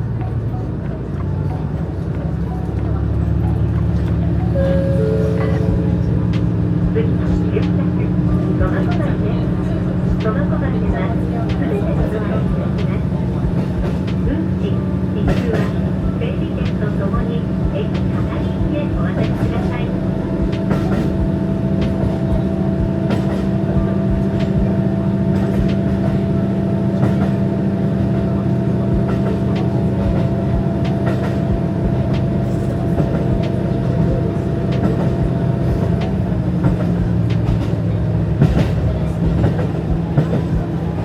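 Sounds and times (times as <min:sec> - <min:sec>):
diesel railcar engine hum: 0:00.0 - 0:41.0.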